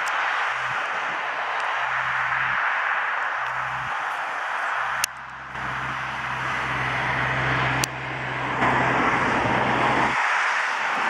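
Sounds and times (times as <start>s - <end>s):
constant rushing noise: 0.0s - 11.0s
low engine hum: 0.5s - 2.6s, 3.4s - 10.2s.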